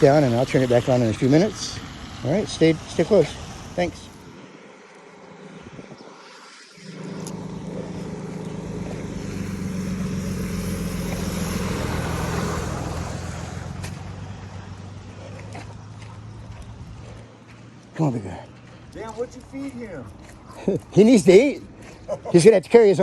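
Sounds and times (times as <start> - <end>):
vehicle passing by: 0.0 - 23.0.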